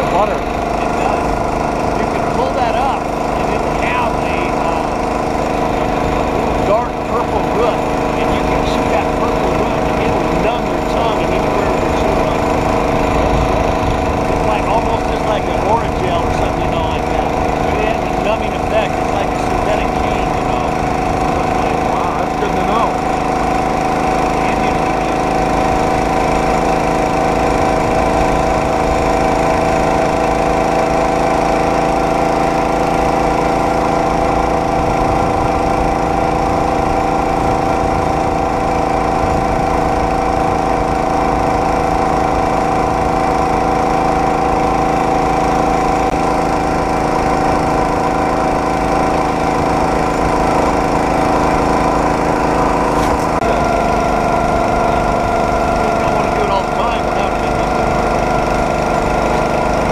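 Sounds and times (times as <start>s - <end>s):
small engine running steadily: 0.0s - 59.9s.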